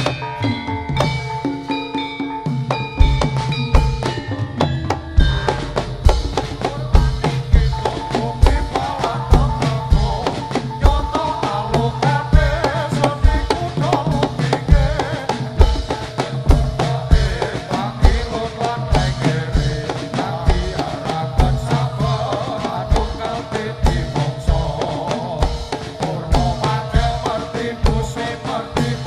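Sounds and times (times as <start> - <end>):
drum-led dance music: 0.0 - 29.0
wavering melody line: 0.0 - 29.0
deep drum strokes: 3.0 - 29.0.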